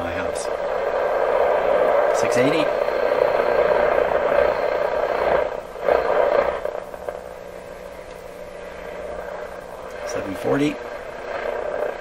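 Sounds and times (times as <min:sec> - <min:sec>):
faint steady hum: 0:00.0 - 0:12.0
radio static: 0:00.0 - 0:12.0.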